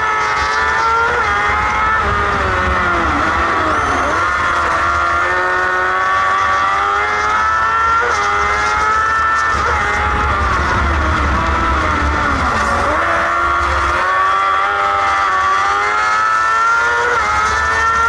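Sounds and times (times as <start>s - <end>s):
kart engine racing: 0.0s - 18.0s.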